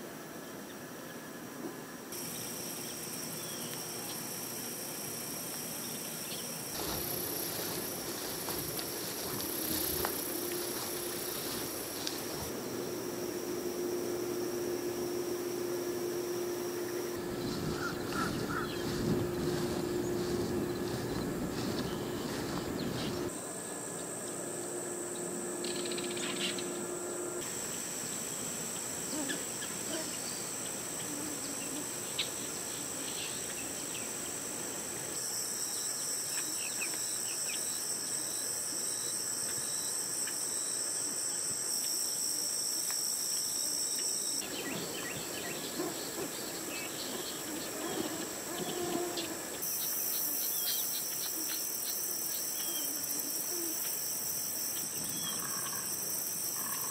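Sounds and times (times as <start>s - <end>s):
insect chorus trilling: 2.1s - 56.9s.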